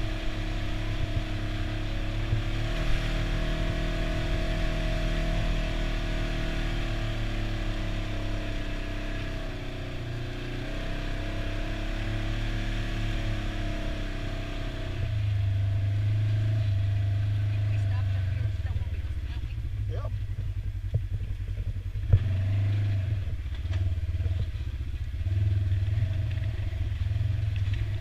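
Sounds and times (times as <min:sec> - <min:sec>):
utility vehicle engine driving: 0:00.0 - 0:28.0.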